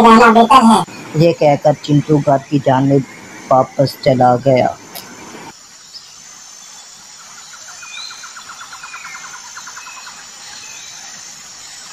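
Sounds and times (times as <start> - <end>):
birds chirping: 0.0 - 11.9
steady hiss: 0.6 - 11.9.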